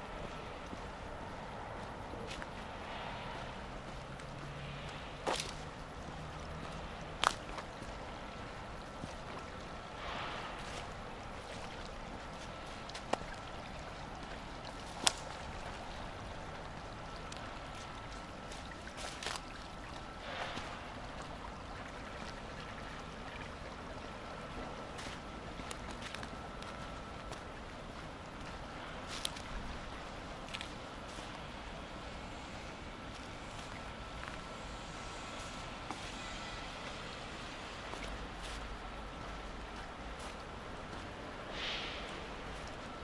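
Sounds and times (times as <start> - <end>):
shallow stream rushing: 0.0 - 43.0.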